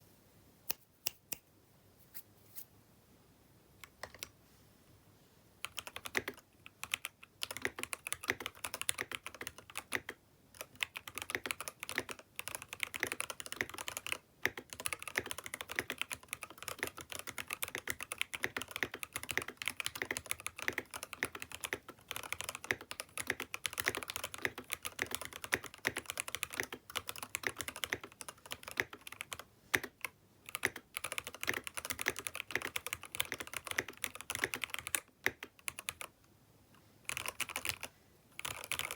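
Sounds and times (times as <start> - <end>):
mechanical keyboard typing: 3.8 - 4.3, 5.6 - 36.2, 37.1 - 38.9.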